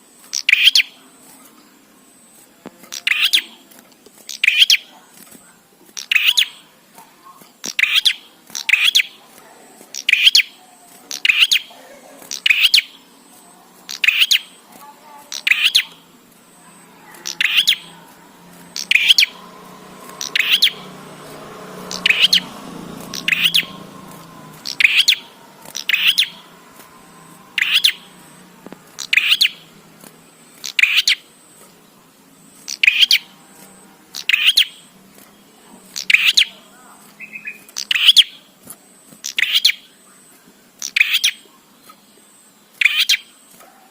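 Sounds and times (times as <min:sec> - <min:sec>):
songbird chirping: 0:00.0 - 0:43.9.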